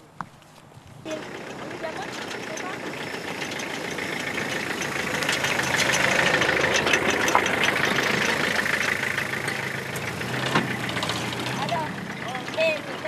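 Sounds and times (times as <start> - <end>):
truck engine running: 1.0 - 13.0.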